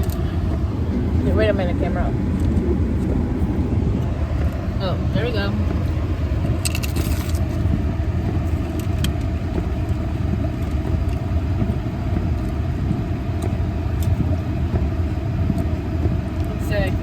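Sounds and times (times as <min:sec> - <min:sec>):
car heater fan blowing: 0:00.0 - 0:17.0.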